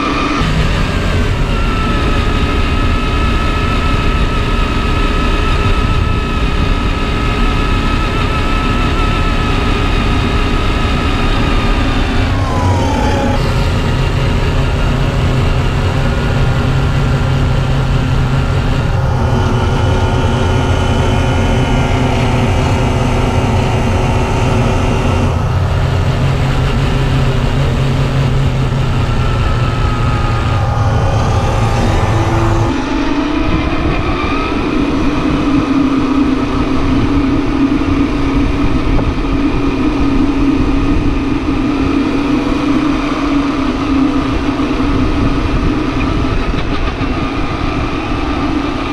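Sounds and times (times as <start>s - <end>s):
higher steady drone: 0.0s - 48.9s
vehicle engine humming: 0.0s - 48.9s.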